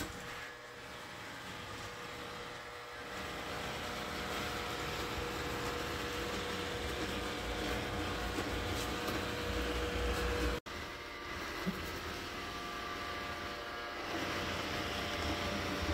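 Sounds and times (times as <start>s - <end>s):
robot vacuum cleaner whirring: 0.0s - 15.9s.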